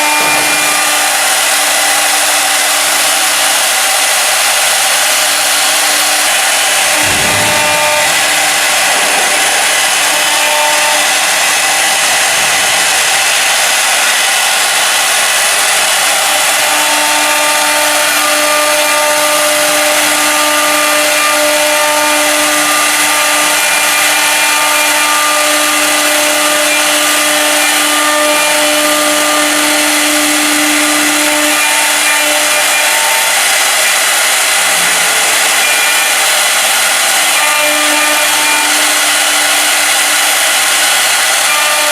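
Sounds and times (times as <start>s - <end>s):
cnc router hiss and whine: 0.0s - 41.9s.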